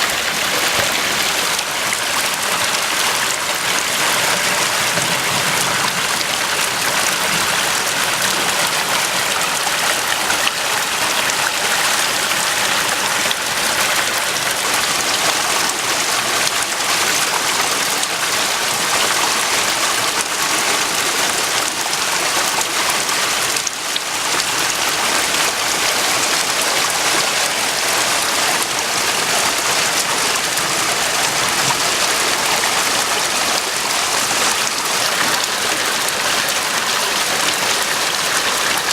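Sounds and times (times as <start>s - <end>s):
floodwater rushing in creek: 0.0s - 38.9s.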